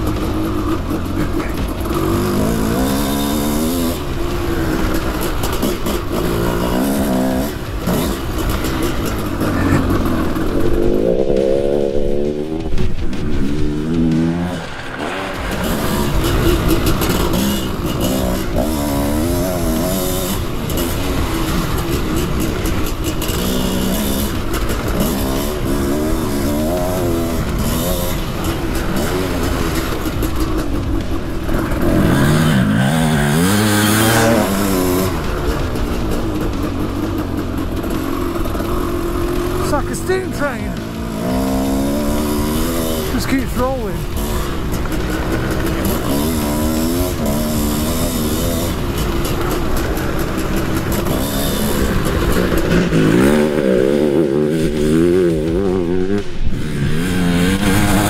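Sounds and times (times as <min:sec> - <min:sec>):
two-stroke motorbike engine revving: 0:00.0 - 0:58.0.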